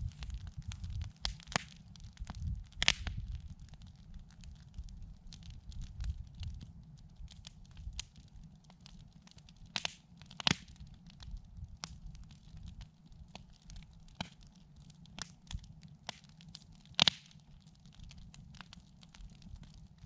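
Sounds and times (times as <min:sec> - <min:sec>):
campfire wood crackling: 0:00.0 - 0:20.0
sharp pops of burning wood: 0:00.0 - 0:20.0.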